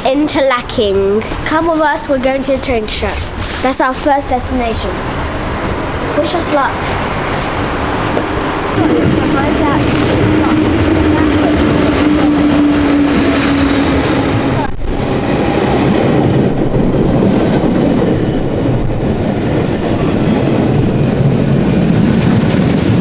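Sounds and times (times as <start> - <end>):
train rumbling along track: 0.0 - 23.0
steady whine: 1.4 - 23.0.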